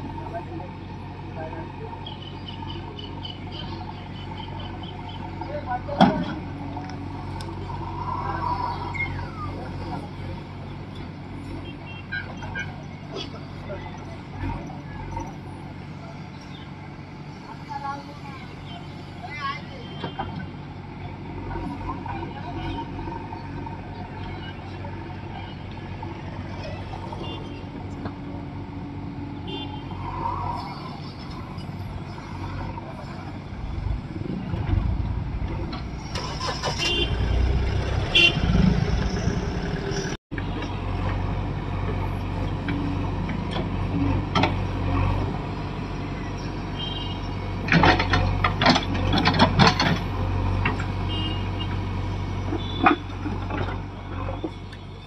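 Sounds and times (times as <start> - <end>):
diesel engine drone under load: 0.0 - 55.0.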